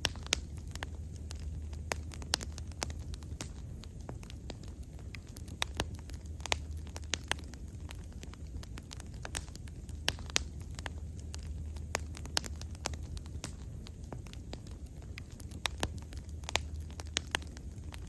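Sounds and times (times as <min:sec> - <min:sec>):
bonfire crackling and popping: 0:00.0 - 0:18.0
low rumble of flames: 0:00.0 - 0:18.0.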